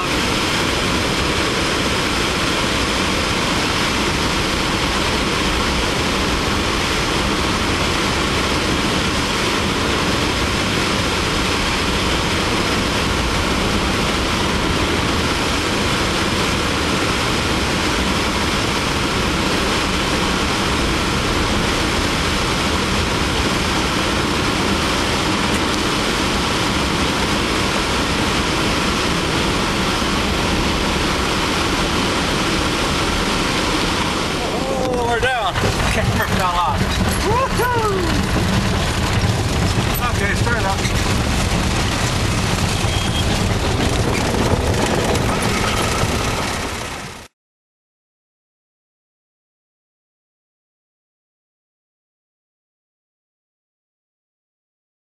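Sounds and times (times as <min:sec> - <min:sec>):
air rushing past gliding aircraft: 0:00.0 - 0:47.3.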